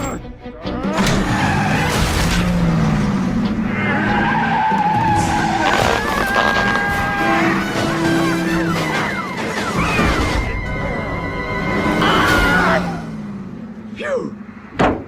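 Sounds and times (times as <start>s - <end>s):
car tyres screeching: 0.9s - 13.6s.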